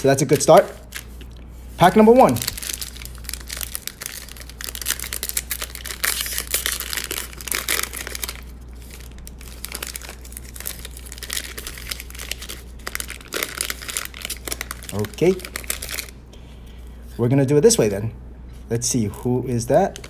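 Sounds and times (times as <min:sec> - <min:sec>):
wrapper tearing and crinkling: 0:00.0 - 0:16.2
low steady hum: 0:00.0 - 0:20.0.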